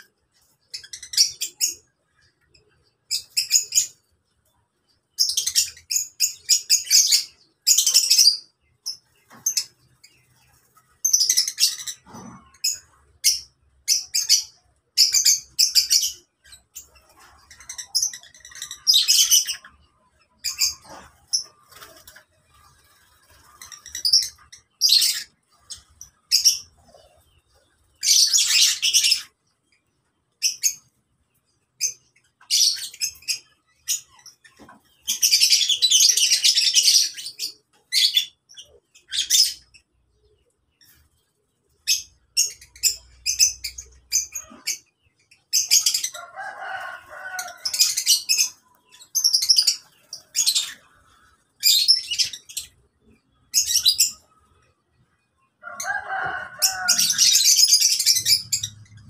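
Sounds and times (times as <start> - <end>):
lovebirds chattering and screeching: 0.0 - 59.0.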